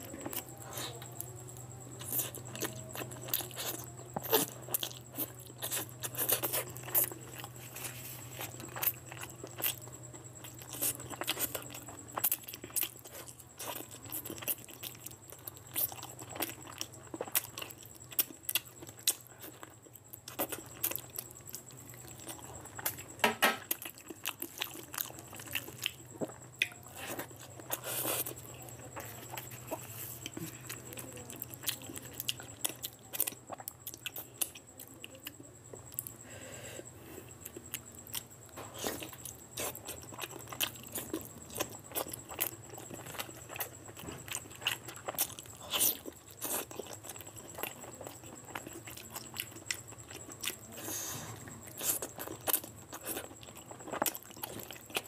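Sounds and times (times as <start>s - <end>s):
wet chewing and lip smacking: 0.0s - 36.2s, 37.3s - 55.0s
faint steady hum: 0.0s - 55.0s.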